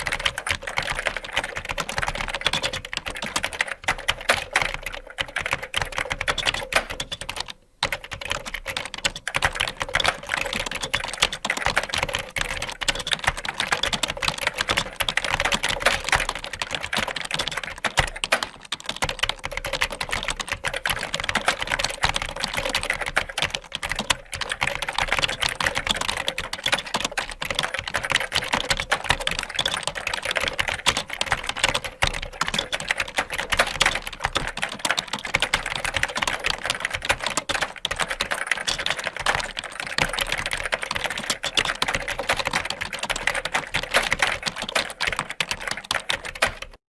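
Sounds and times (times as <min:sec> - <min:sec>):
typing on computer keyboard: 0:00.0 - 0:46.8.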